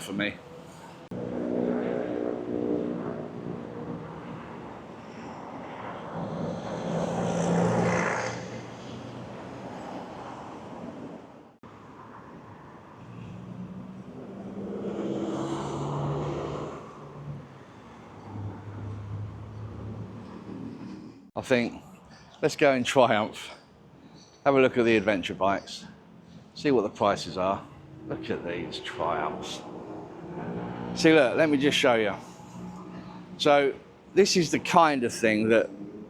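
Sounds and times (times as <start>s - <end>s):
vehicles driving past: 0.0s - 36.0s.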